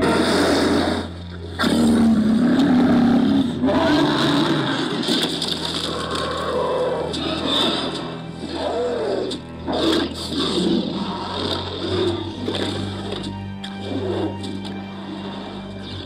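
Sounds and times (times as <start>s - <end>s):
dinosaur roar and growl: 0.0s - 16.0s.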